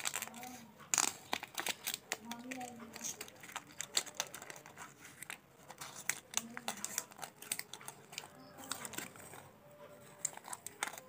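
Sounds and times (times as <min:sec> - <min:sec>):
candy wrapper crinkling: 0:00.0 - 0:11.0.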